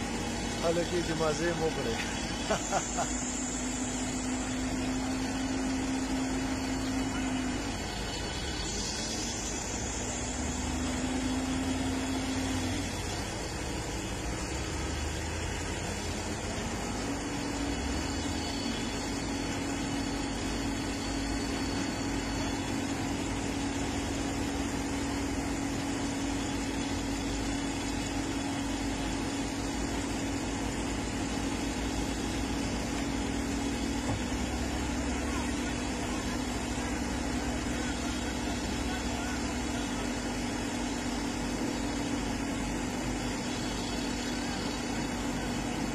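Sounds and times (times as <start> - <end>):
heavy diesel machinery running: 0.0 - 45.9.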